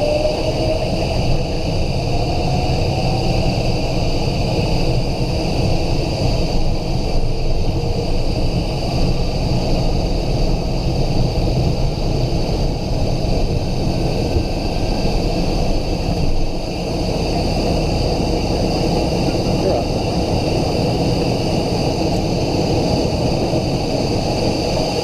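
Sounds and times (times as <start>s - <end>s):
engine and airflow rumble: 0.0s - 25.0s
jet engines high whine: 0.0s - 25.0s.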